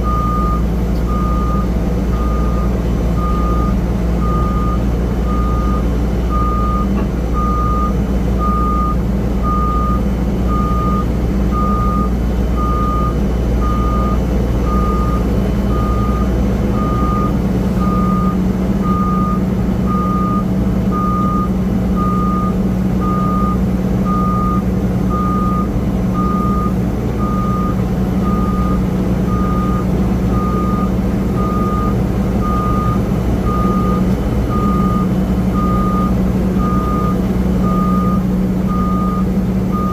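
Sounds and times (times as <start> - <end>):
backup alarm beeping: 0.0 - 39.9
low rumble of machinery: 0.0 - 39.9.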